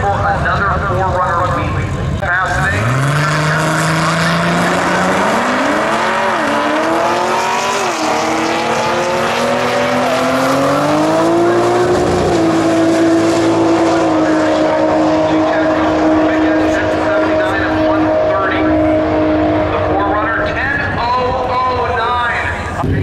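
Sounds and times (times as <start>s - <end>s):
engine accelerating hard: 0.0s - 23.0s.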